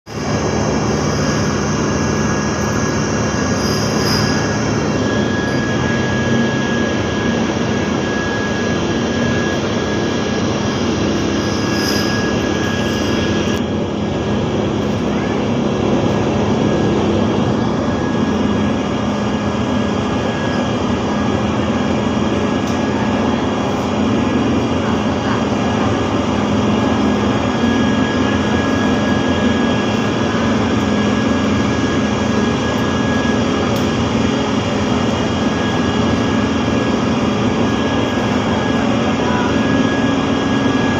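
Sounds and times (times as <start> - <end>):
ship engines droning: 0.1 - 40.9
thin constant whine: 0.1 - 40.9.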